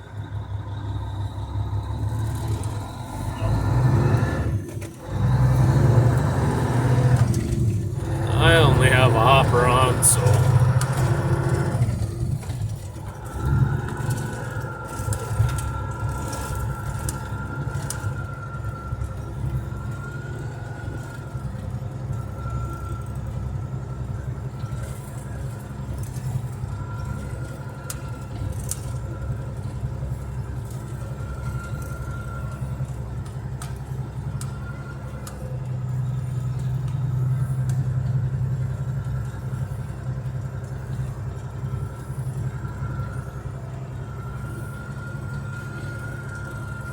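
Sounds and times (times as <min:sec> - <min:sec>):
diesel engine drone: 0:00.1 - 0:46.9.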